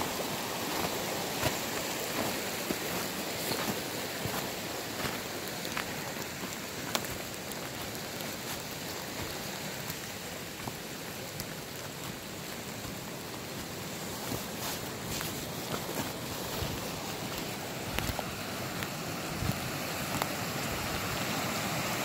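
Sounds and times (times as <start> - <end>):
rushing water hiss: 0.0 - 22.0.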